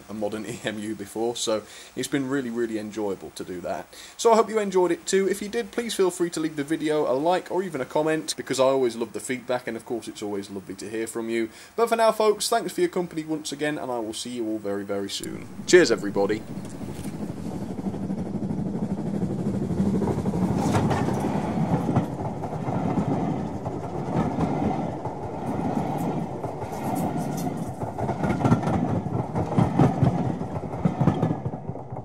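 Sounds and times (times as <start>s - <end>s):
model train wheels rumbling: 2.4s - 32.0s.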